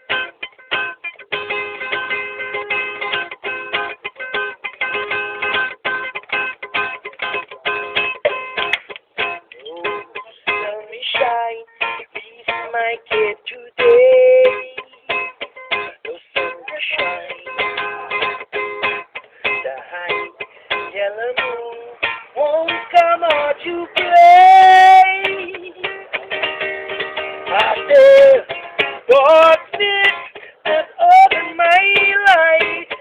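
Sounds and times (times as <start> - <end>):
plucked string instrument melody: 0.0 - 33.0.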